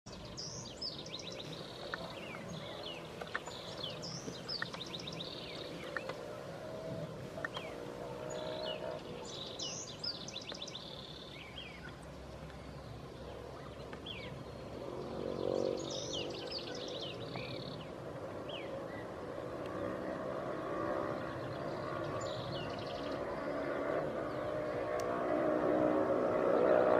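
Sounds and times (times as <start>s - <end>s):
songbird chirping and trilling: 0.1s - 26.9s.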